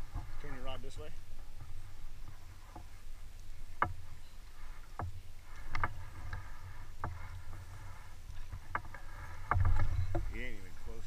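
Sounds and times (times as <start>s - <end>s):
oars knocking in oarlocks: 0.0s - 11.0s
river water rumble: 0.0s - 11.0s
wind: 0.0s - 11.0s.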